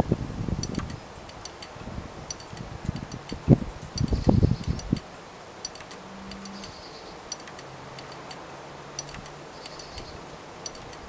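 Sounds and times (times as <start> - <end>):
clock mechanism clicking: 0.6 - 8.4, 9.0 - 11.0.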